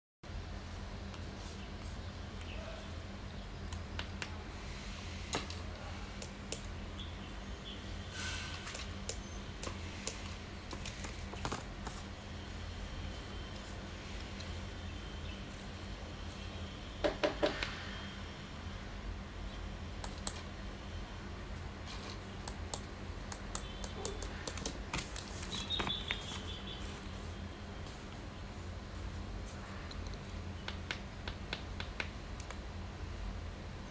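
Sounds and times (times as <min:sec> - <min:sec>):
steady low hum: 0:00.2 - 0:33.9.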